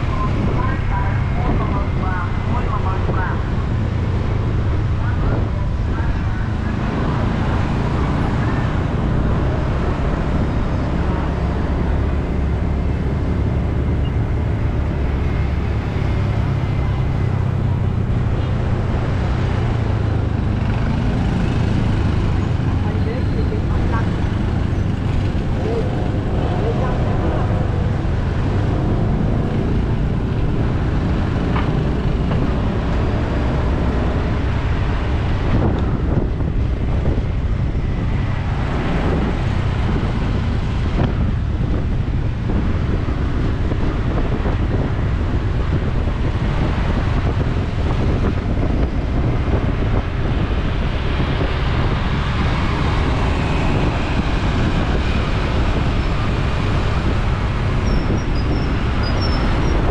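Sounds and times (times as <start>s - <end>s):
road traffic: 0.0s - 59.9s
wind rumble on microphone: 0.0s - 59.9s.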